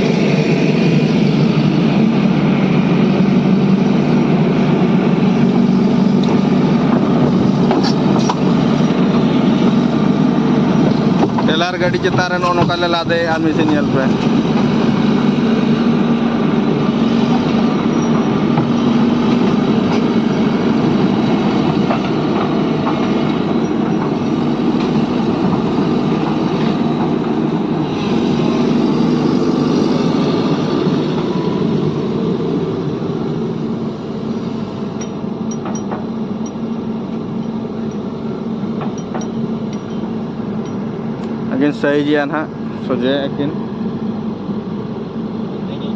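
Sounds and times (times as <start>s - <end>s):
diesel machinery humming: 0.0s - 45.9s.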